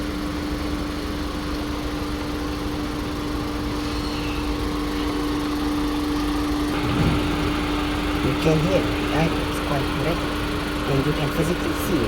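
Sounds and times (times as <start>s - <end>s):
car engine idling roughly: 0.0s - 12.0s
steady hum: 0.0s - 12.0s.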